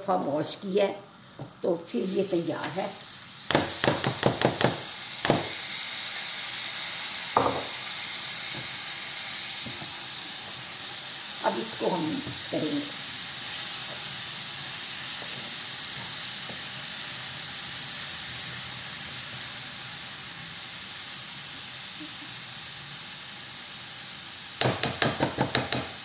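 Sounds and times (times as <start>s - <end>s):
lentils sizzling in hot oil: 0.0s - 26.0s.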